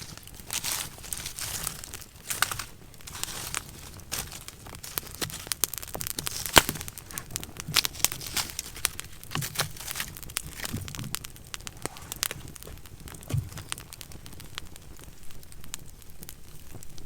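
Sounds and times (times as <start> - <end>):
crinkling and rustling: 0.0 - 14.8.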